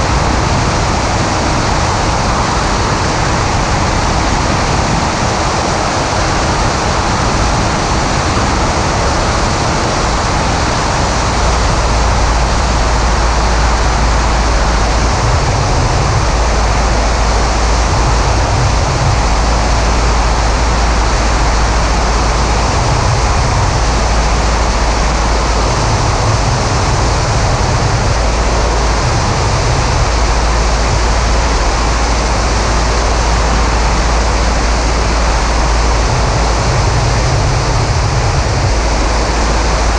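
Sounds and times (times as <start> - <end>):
airplane engine and propeller roar: 0.0 - 39.9
wind buffeting microphone: 0.0 - 39.9.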